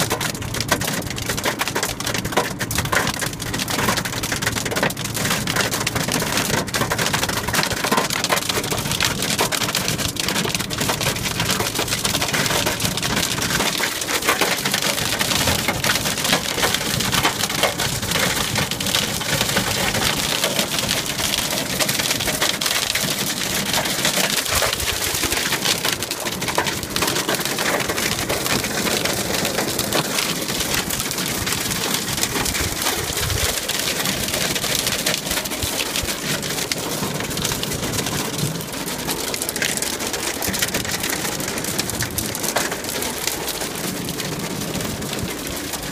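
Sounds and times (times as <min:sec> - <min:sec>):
hail drumming on car roof: 0:00.0 - 0:45.9.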